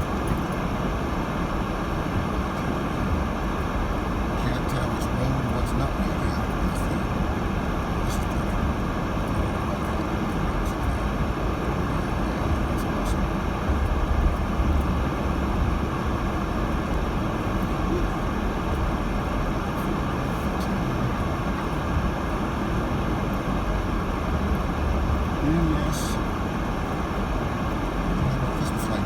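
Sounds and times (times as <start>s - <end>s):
road and tyre noise in car cabin: 0.0s - 29.0s.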